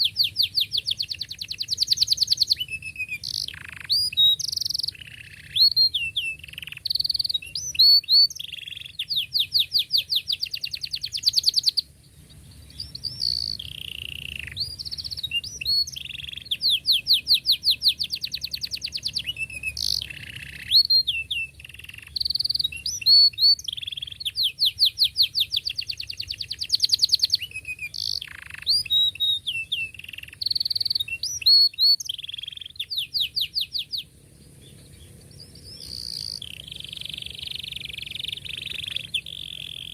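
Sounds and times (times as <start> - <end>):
canary singing chirps and trills: 0.0 - 39.9.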